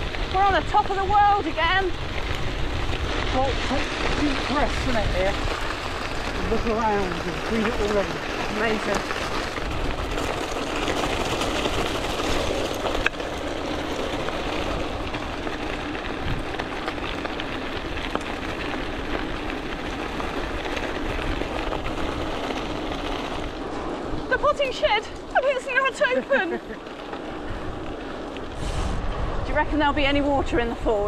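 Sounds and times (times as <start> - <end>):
bike tyres rolling over gravel: 0.0 - 31.0.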